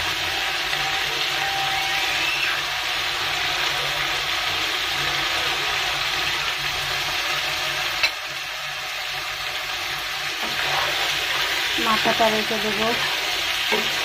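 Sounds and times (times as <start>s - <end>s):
fish sizzling in wok: 0.0s - 14.0s.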